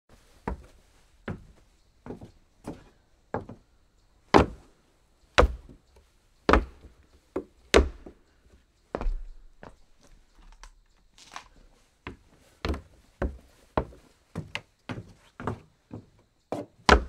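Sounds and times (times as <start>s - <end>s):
footsteps on wooden floor: 0.2s - 3.6s, 5.4s - 5.8s, 6.5s - 10.6s, 11.2s - 17.0s.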